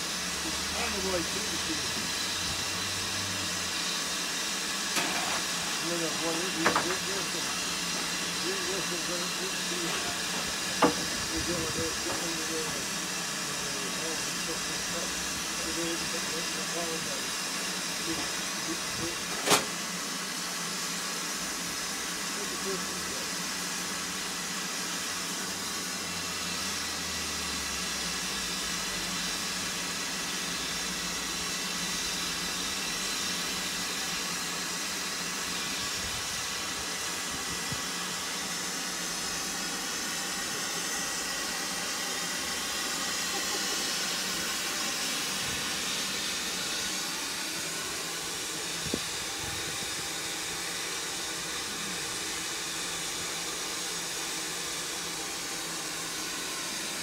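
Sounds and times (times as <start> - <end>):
hiss of escaping steam: 0.0 - 57.0.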